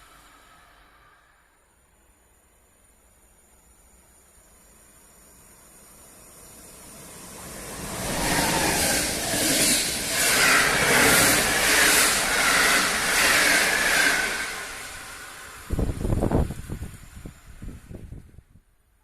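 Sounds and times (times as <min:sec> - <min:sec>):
train passing with wheel-on-rail noise: 0:00.0 - 0:19.0.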